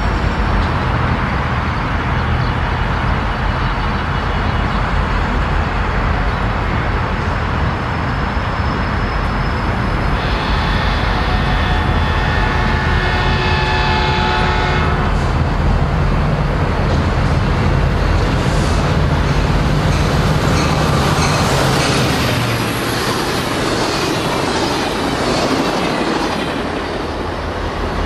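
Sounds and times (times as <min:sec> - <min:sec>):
diesel locomotive engine rumble: 0:00.0 - 0:28.0.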